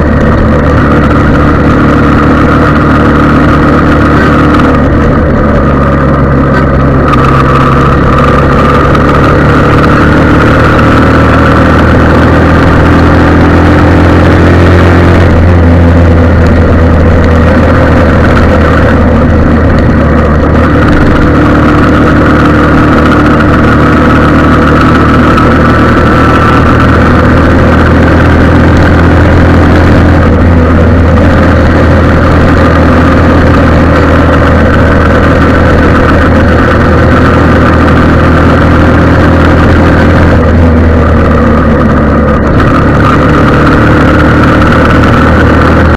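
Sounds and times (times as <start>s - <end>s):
engine idling loudly: 0.0s - 45.9s.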